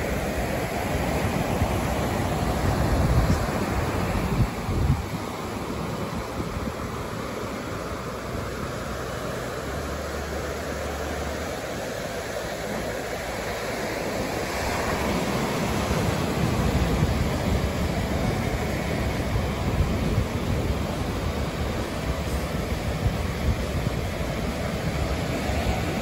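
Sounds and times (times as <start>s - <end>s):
surf washing up a beach: 0.0s - 26.0s
wind rumbling on microphone: 0.0s - 26.0s.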